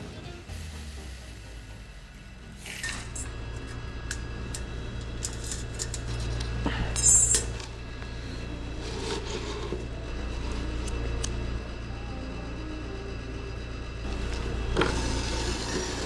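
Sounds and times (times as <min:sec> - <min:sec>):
low hum: 0:00.5 - 0:16.0.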